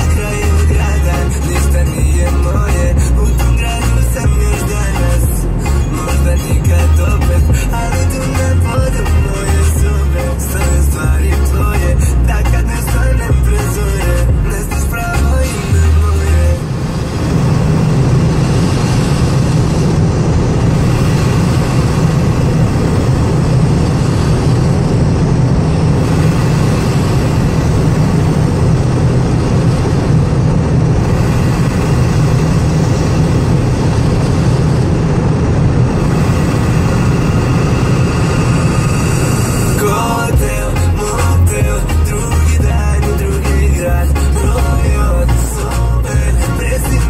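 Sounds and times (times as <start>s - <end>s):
wind and tyre rush: 0.0s - 41.7s
low diesel engine drone: 0.0s - 47.0s.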